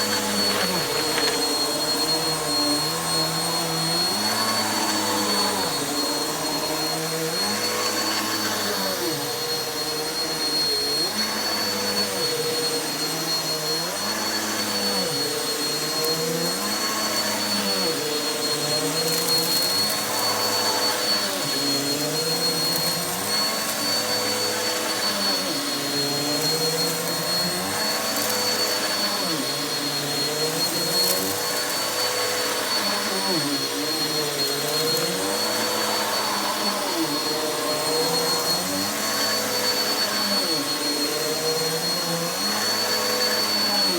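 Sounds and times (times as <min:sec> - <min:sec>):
vacuum cleaner on carpet: 0:00.0 - 0:43.9.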